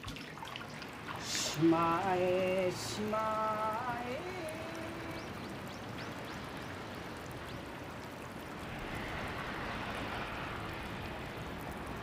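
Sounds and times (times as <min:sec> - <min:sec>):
rain hissing: 0:00.8 - 0:12.0.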